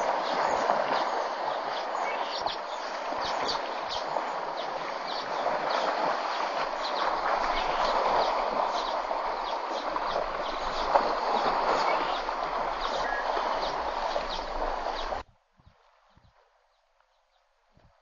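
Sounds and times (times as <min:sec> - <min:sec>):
high water splashes: 0:00.0 - 0:15.2
water sloshing: 0:00.0 - 0:15.2.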